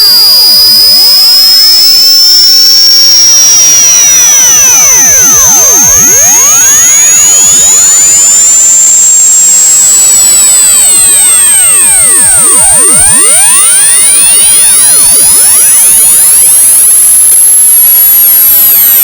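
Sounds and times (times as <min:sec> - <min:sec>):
high piercing test tone rising: 0:00.0 - 0:19.0.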